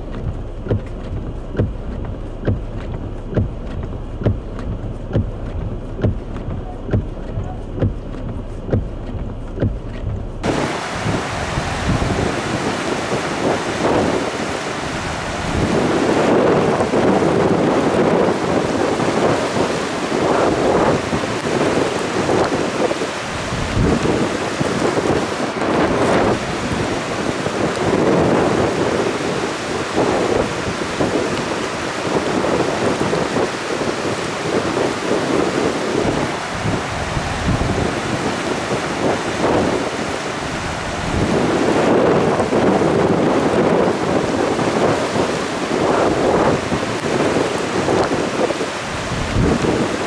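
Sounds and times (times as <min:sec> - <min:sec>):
hurricane wind roaring: 0:00.0 - 0:50.0
wind gusts buffeting microphone: 0:00.0 - 0:50.0.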